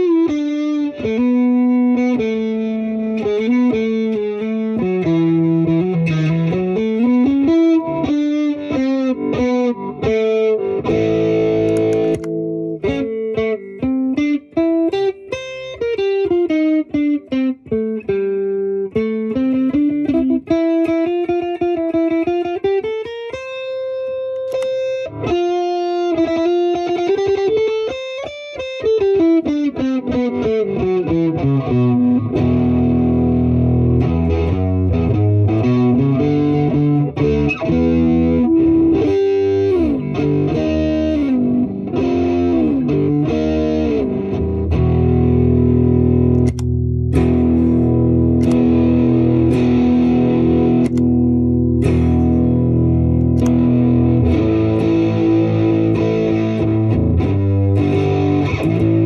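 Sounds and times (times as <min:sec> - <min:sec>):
electric guitar melody: 0:00.0 - 0:59.0.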